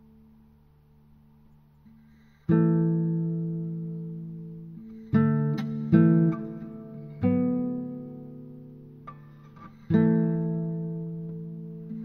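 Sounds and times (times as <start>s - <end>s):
acoustic guitar strums: 1.8s - 12.0s.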